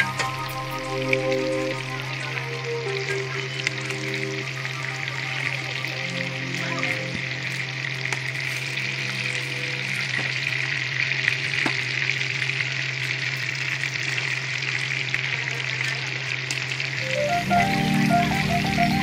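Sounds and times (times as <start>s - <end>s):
chicken sizzling in a pan: 0.0s - 19.0s.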